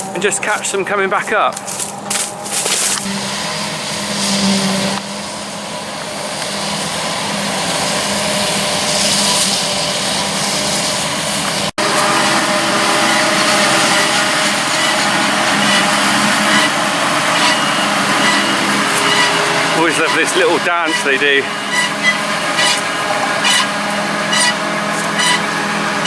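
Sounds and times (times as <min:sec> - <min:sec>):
harvester and tractor engines droning: 0:00.0 - 0:26.0.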